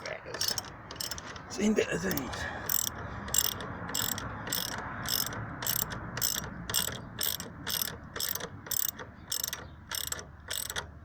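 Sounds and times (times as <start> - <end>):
ratchet wrench clicking: 0.3 - 1.2, 2.6 - 10.9.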